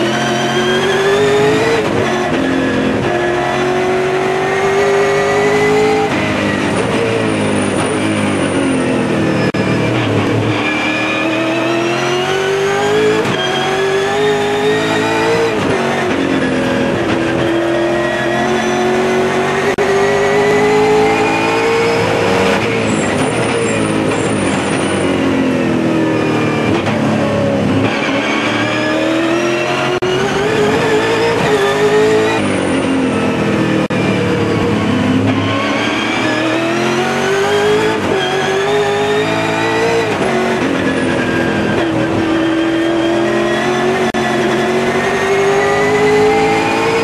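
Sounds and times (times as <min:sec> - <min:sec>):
racing car engine revving: 0:00.0 - 0:47.0.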